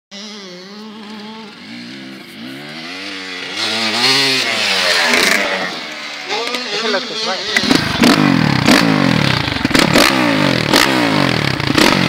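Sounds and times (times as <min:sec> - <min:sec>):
dirt bike engine revving: 0:00.1 - 0:12.0.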